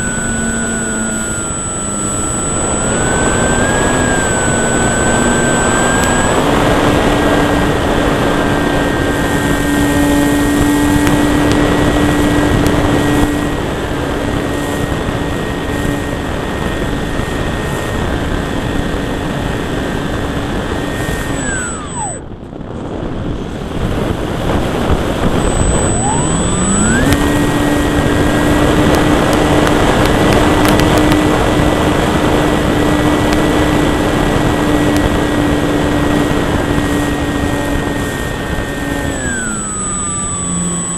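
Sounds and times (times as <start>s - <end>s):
model plane electric motor: 0.0s - 40.9s
wind on microphone: 0.0s - 40.9s.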